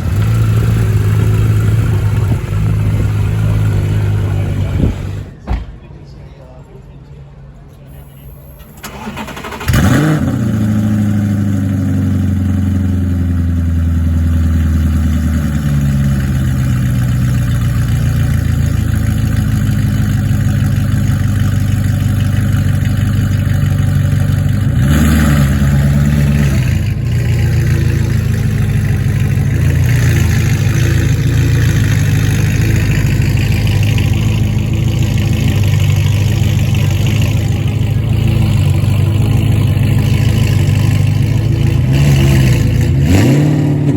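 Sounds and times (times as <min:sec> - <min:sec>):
car engine revving: 0:00.0 - 0:05.3, 0:08.8 - 0:43.9
car engine starting and idling: 0:00.0 - 0:05.4, 0:07.9 - 0:43.9.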